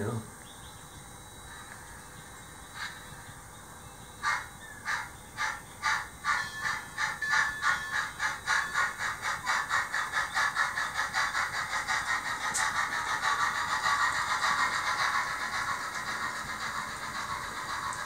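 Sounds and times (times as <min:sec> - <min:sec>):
model steam locomotive chuffing: 0:01.4 - 0:18.0.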